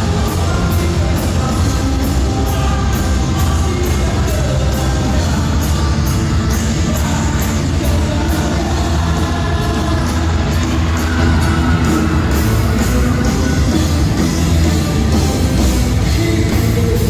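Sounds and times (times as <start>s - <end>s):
bass: 0.0s - 17.0s
distorted electric guitars: 0.0s - 17.0s
drums and cymbals: 0.0s - 17.0s
man singing lead vocals: 0.0s - 17.0s.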